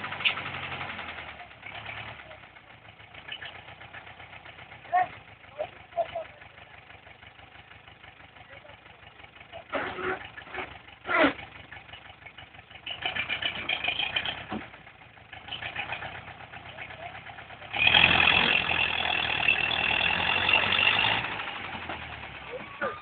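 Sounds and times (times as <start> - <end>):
diesel tractor engine running: 0.0 - 23.0.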